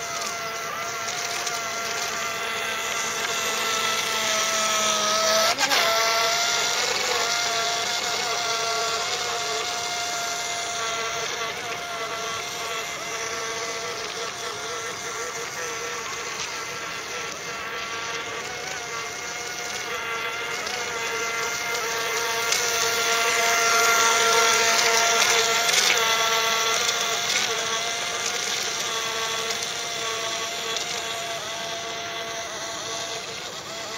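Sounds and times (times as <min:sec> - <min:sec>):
buzzing toy boat motor: 0:00.0 - 0:33.9.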